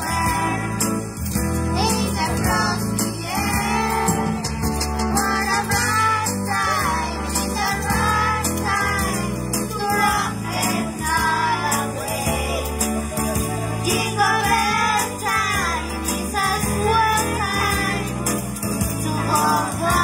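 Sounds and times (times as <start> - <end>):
children's choir singing: 0.0 - 1.0, 1.7 - 12.8, 13.8 - 20.0
hand shakers jingling: 0.0 - 20.0
instrumental accompaniment: 0.0 - 20.0
tambourine jingling: 0.0 - 20.0.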